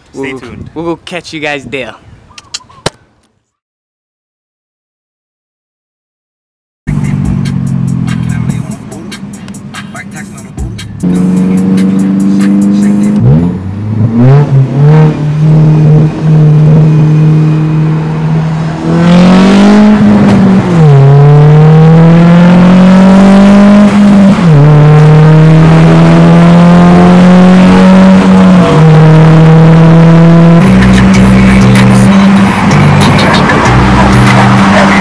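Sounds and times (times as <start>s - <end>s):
car engine accelerating: 6.9s - 35.0s.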